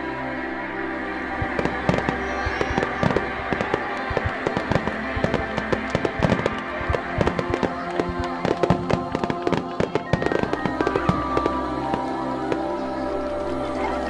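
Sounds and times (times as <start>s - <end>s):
background music: 0.0s - 14.0s
fireworks bangs and crackles: 1.4s - 13.7s.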